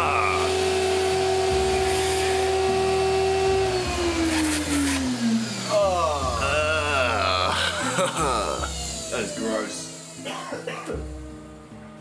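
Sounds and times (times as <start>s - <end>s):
motor whine spinning down: 0.0s - 10.2s
shop vacuum running: 0.0s - 11.7s.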